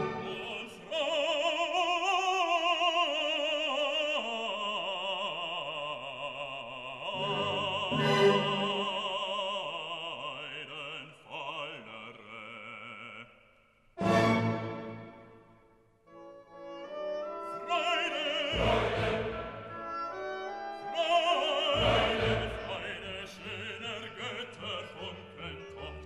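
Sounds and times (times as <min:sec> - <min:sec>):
operatic singing with vibrato: 0:00.0 - 0:26.0.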